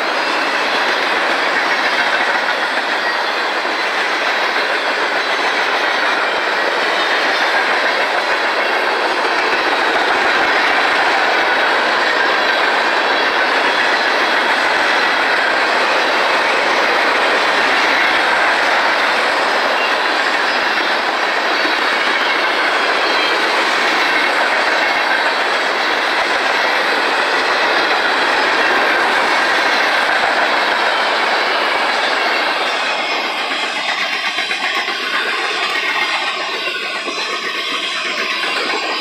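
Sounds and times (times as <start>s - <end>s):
train wheels clacking on rails: 0.0s - 39.0s.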